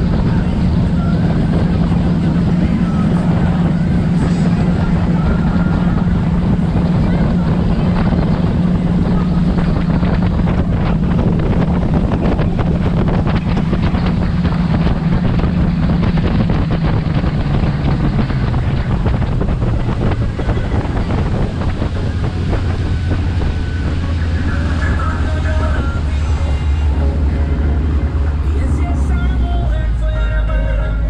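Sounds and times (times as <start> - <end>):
wind buffeting microphone: 0.0 - 30.2
speedboat engine running: 0.0 - 31.0
water rushing past hull: 0.0 - 31.0.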